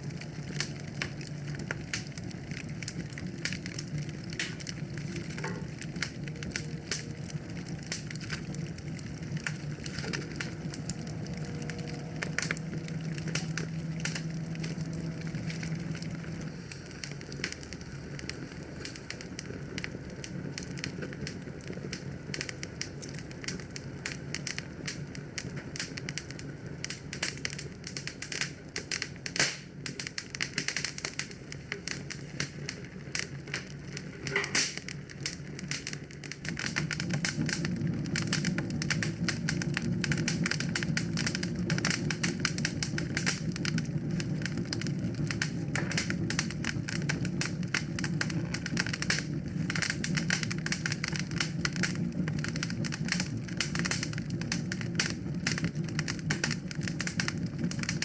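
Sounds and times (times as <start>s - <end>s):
low steady rumble: 0.0s - 26.2s, 36.2s - 58.0s
wood fire crackling: 0.0s - 58.0s.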